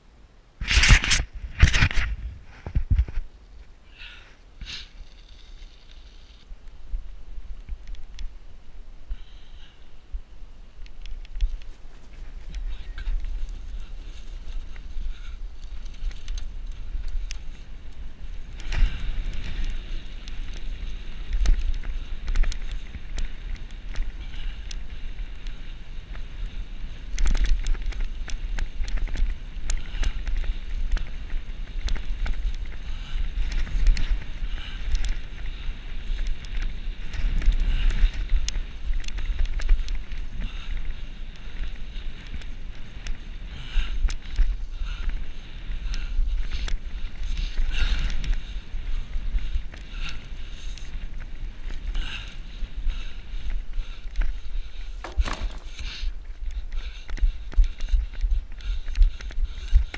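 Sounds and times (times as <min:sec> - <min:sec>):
bike clicks and rattles: 0:00.6 - 0:08.4, 0:10.7 - 0:59.9.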